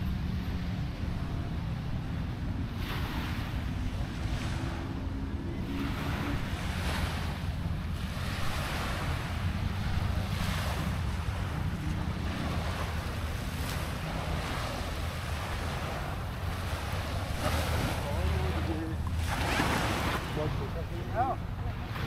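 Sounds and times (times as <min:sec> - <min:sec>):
sea waves washing ashore: 0:00.0 - 0:22.0
wind buffeting microphone: 0:00.0 - 0:22.0.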